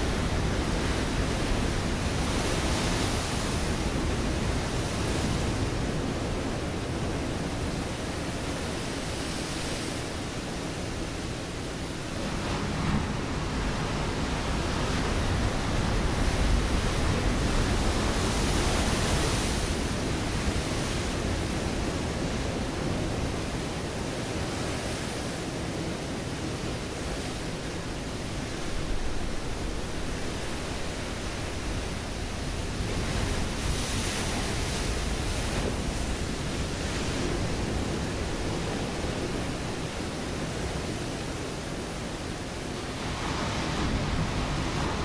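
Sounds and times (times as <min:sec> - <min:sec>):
waves breaking on rocky shore: 0:00.0 - 0:45.0.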